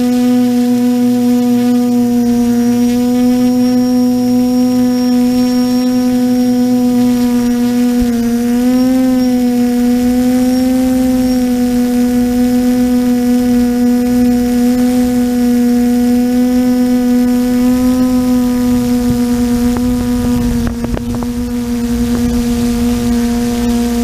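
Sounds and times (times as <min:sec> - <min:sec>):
quadcopter motors buzzing: 0:00.0 - 0:24.0.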